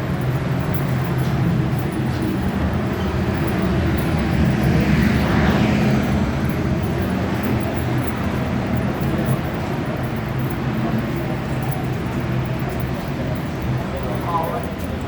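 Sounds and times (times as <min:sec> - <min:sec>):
subway station rumble: 0:00.0 - 0:15.0.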